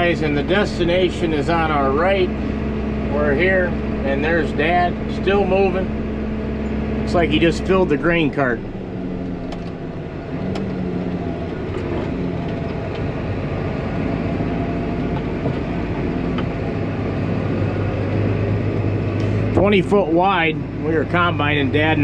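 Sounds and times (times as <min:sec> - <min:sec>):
tractor engine drone: 0:00.0 - 0:22.0.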